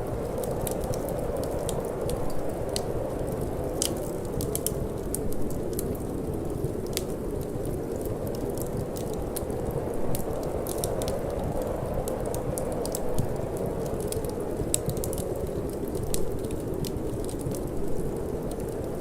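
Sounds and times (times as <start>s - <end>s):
low rush of wind and flame: 0.0s - 19.0s
wood fire crackling: 0.0s - 19.0s.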